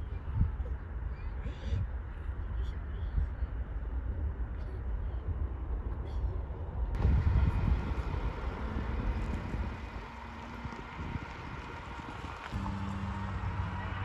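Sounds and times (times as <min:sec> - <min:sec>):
distant jet airliner rumble: 0:00.0 - 0:14.0.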